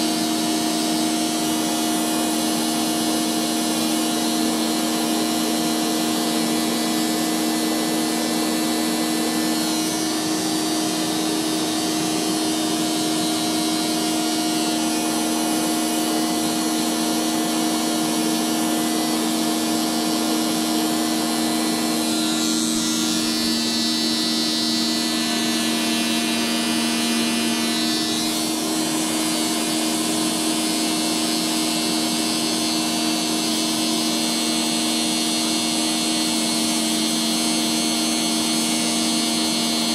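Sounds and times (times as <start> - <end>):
vacuum cleaner motor humming: 0.0 - 39.9.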